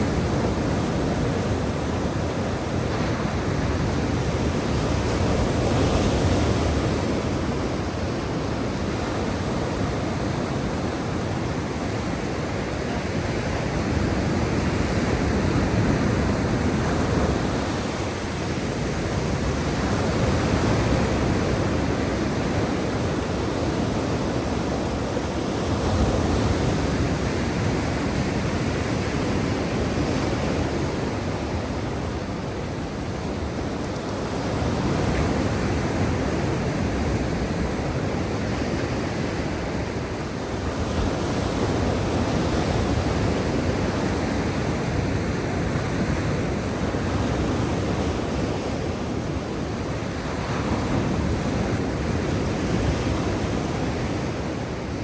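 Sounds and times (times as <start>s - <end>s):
waves washing ashore: 0.0s - 55.0s.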